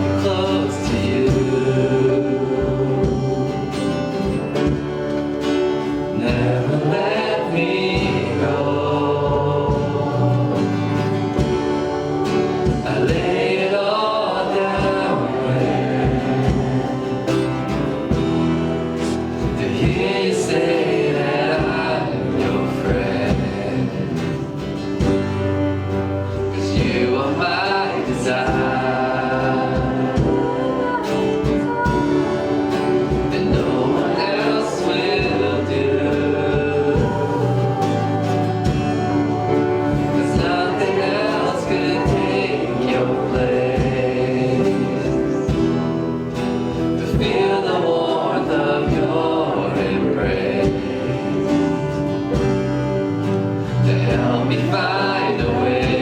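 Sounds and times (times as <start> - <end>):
band with guitar: 0.0 - 56.0
congregation singing: 0.0 - 56.0.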